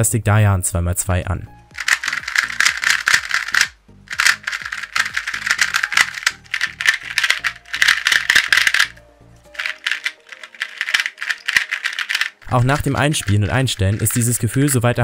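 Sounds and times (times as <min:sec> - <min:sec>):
plastic puzzle cube clicking: 0:01.8 - 0:09.0, 0:09.6 - 0:14.5.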